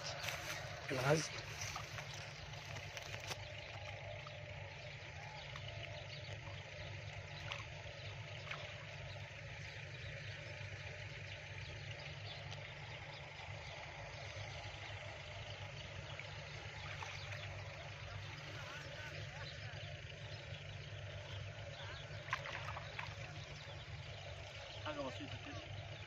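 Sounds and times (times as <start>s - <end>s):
water sloshing and splashing: 0.0s - 20.2s, 20.9s - 26.0s
steady low hum: 0.0s - 26.0s.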